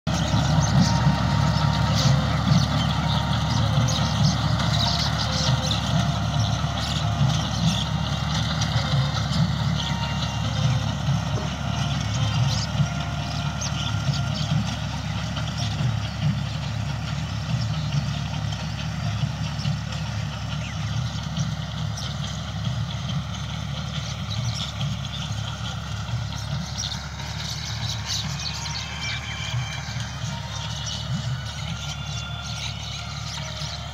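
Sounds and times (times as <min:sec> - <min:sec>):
tractor diesel engine running: 0:00.0 - 0:33.9
bird calls: 0:00.1 - 0:33.9.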